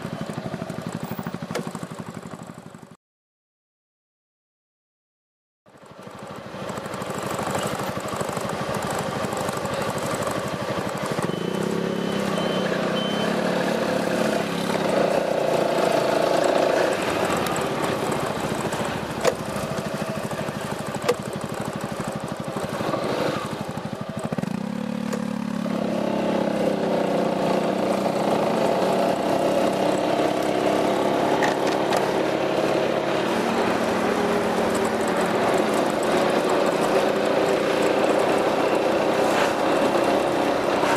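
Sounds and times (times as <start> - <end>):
scooter engine running: 0.0 - 3.0, 5.7 - 40.9.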